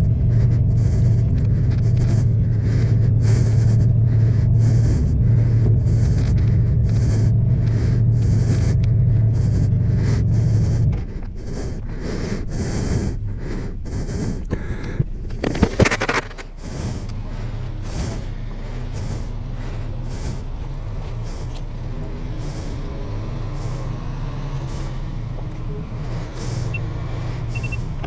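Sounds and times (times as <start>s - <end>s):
motorcycle engine cruising: 0.0s - 12.4s, 15.1s - 28.0s.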